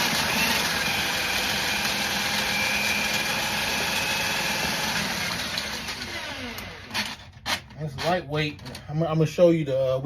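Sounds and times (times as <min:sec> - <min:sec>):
drill whining: 0:00.0 - 0:08.1.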